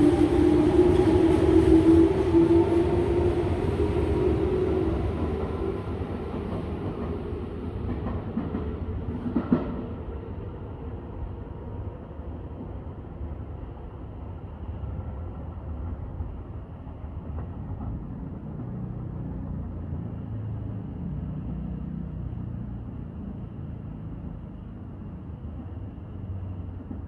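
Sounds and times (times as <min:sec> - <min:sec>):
electric train rumbling: 0:00.0 - 0:27.0.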